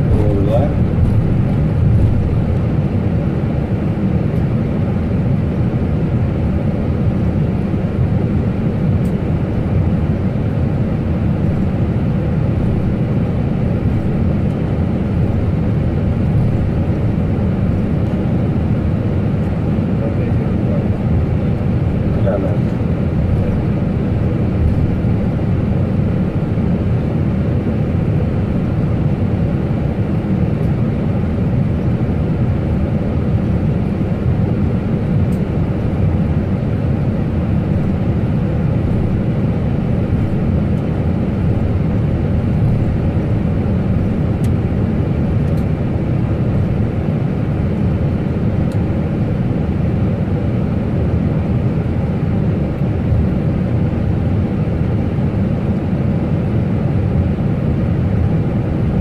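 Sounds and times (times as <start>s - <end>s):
airliner engine and airflow noise: 0.0s - 59.0s.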